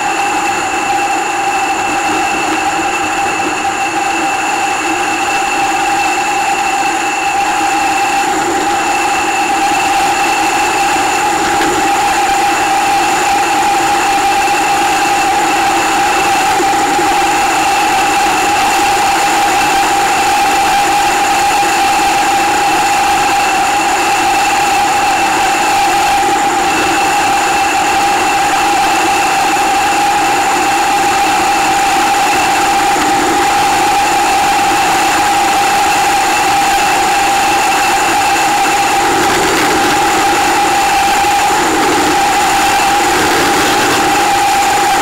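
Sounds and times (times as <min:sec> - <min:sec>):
motorcycle engine droning: 0:00.0 - 0:45.0
wind noise: 0:00.0 - 0:45.0.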